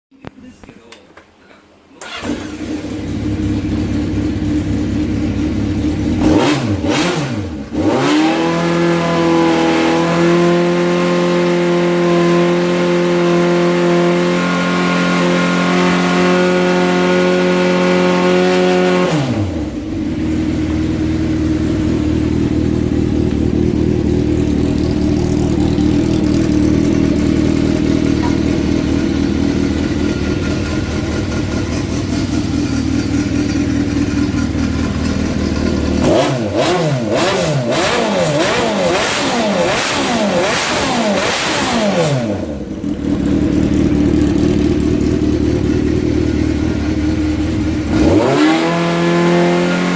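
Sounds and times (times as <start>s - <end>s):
motorcycle engine idling and revving: 2.0s - 49.9s.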